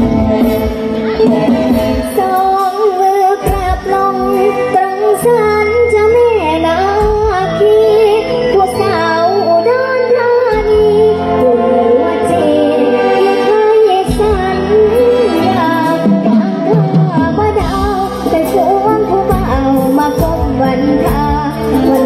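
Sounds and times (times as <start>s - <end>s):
amplified band with steady bass: 0.0s - 22.0s
woman singing into microphone: 0.0s - 22.0s.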